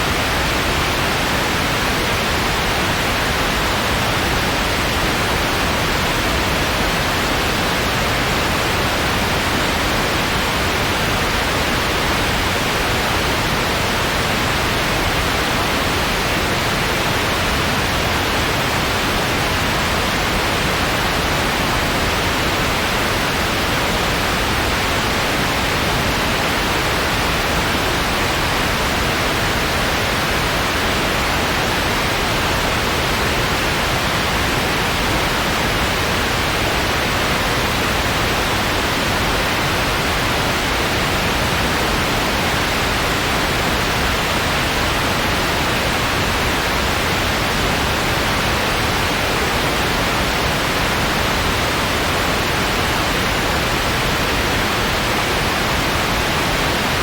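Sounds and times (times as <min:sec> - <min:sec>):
steady white noise: 0:00.0 - 0:57.0.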